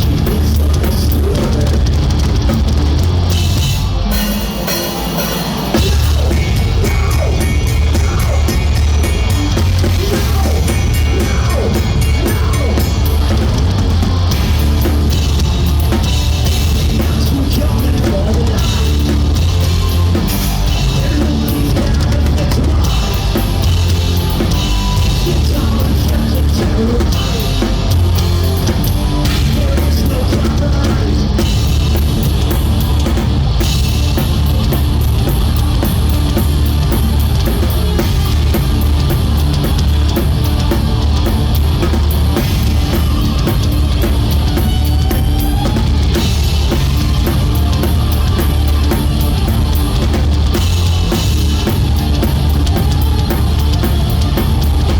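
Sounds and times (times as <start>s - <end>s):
live rock band playing: 0.0s - 54.9s
loud drum kit: 0.0s - 54.9s.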